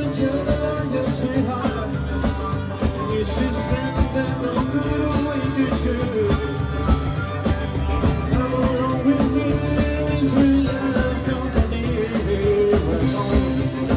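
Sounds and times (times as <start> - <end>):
acoustic guitar: 0.0 - 13.9
drums: 0.0 - 13.9
man singing: 0.0 - 13.9
upright double bass: 0.0 - 13.9.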